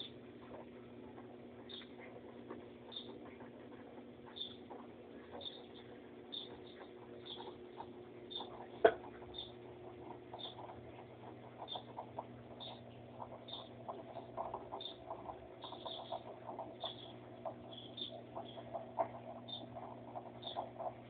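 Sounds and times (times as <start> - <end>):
washing machine motor hum: 0.0 - 21.0
water sloshing and clicking: 0.0 - 21.0.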